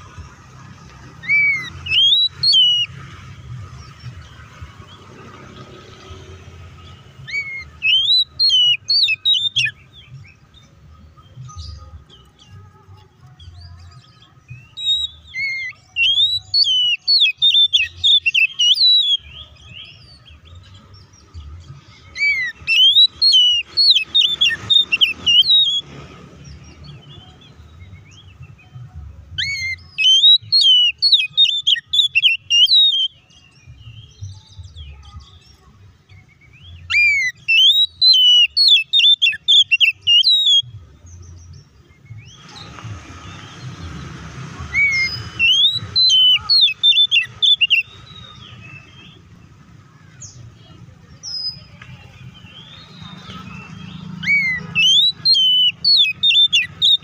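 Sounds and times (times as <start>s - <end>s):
bird singing high chirps and whistles: 0.5s - 3.2s, 3.8s - 57.0s.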